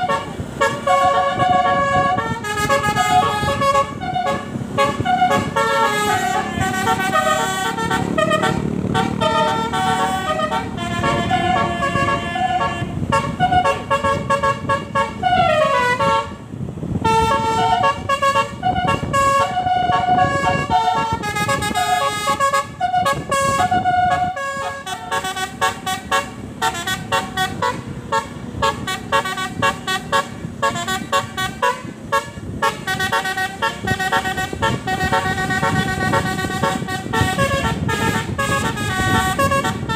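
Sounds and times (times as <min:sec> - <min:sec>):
bus horn playing a melody: 0:00.0 - 0:39.9
engine rumble: 0:00.0 - 0:39.9.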